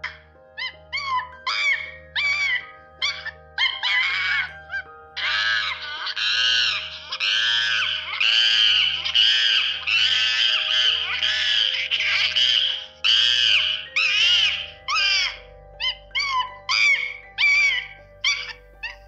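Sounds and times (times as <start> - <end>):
background music with low pulse: 0.0 - 19.0
monkey calls: 0.0 - 19.0.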